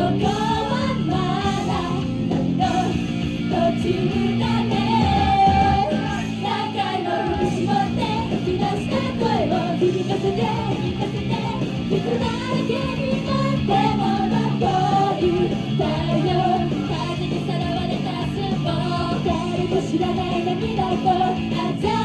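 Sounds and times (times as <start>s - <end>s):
amplified pop backing music: 0.0s - 22.0s
women singing into microphones: 0.0s - 22.0s.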